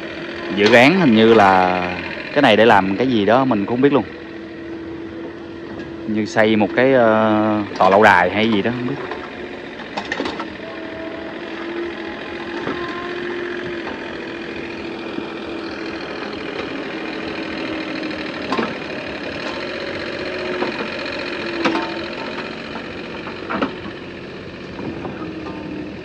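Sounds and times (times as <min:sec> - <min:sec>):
excavator diesel engine running: 0:00.0 - 0:26.0
wavering whine: 0:00.0 - 0:26.0.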